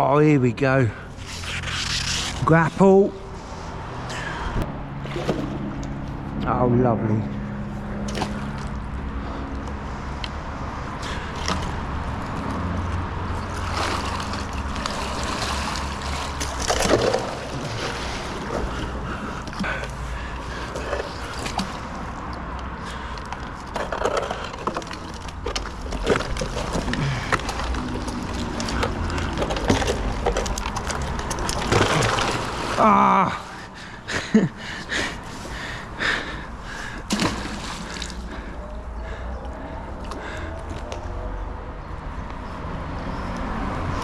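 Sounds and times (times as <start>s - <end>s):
water sloshing and splashing: 3.3s - 6.4s, 7.6s - 40.5s.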